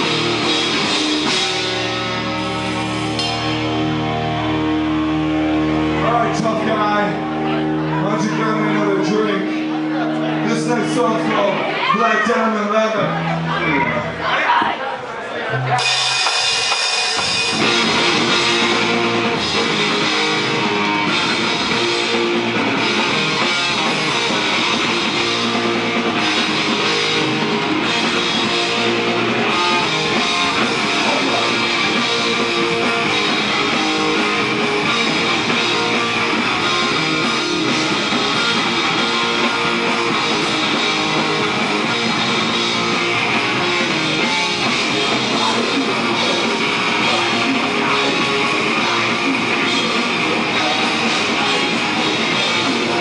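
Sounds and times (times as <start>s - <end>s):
drum kit: 0.0s - 6.9s, 15.6s - 53.0s
electric guitar: 0.0s - 14.7s, 15.5s - 53.0s
bass guitar: 0.0s - 53.0s.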